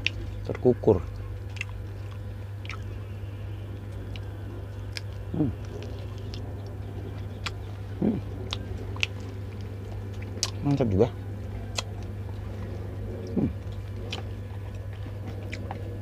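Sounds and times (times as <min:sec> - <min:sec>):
mouth chewing clicks and smacks: 0:00.0 - 0:02.9, 0:03.7 - 0:16.0
steady low hum: 0:00.0 - 0:16.0.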